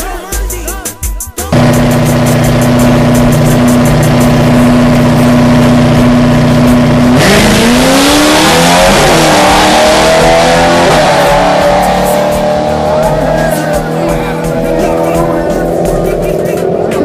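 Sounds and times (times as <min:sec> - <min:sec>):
racing engine revving and accelerating: 0:01.5 - 0:17.0.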